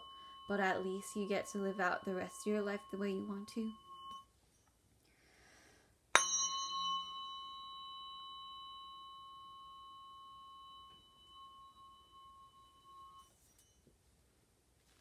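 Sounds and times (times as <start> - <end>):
tuning fork ringing: 0.0 - 4.3, 6.2 - 13.9.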